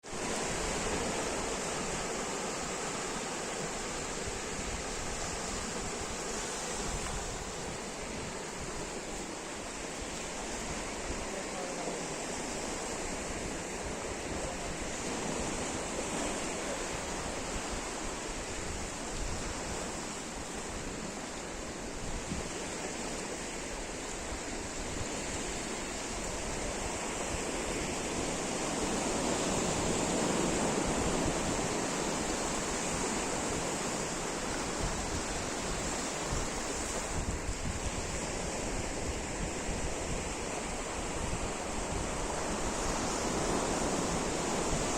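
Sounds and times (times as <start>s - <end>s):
waves washing onto beach: 0.0s - 44.9s.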